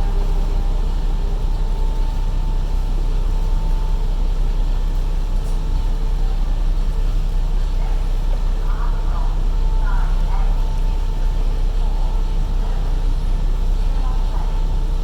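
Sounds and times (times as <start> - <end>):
ferry engines rumbling: 0.0 - 15.0.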